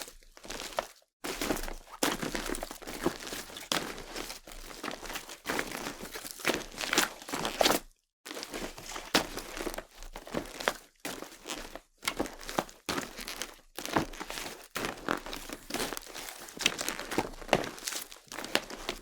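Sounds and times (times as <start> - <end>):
footsteps crunching on loose surface: 0.4 - 19.0.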